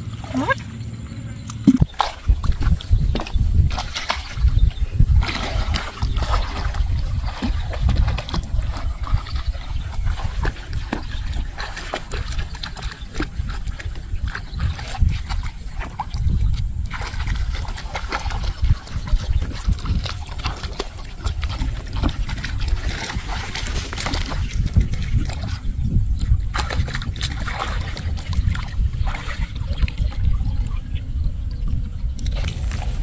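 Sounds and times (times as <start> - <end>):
low rumble: 0.0 - 33.0
water sloshing and splashing: 0.0 - 33.0.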